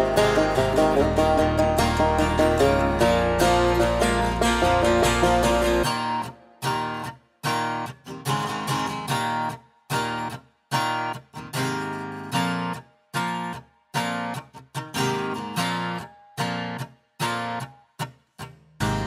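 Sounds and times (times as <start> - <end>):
strummed guitar chords: 0.0 - 17.6, 18.8 - 19.0.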